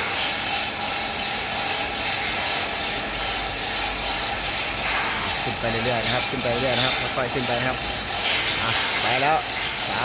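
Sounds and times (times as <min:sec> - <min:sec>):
chain clattering through hoist: 0:00.0 - 0:10.0.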